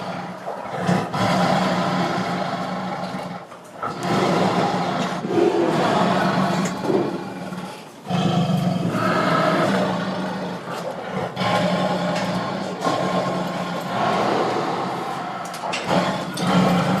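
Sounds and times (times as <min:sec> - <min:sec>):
tiger growling: 0:00.0 - 0:17.0.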